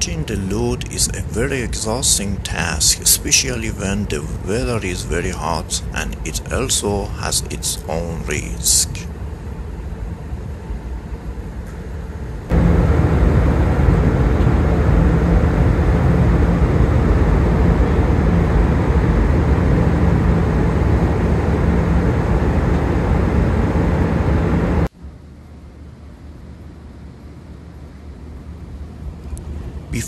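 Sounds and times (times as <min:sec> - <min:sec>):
low engine drone: 0:00.0 - 0:30.0.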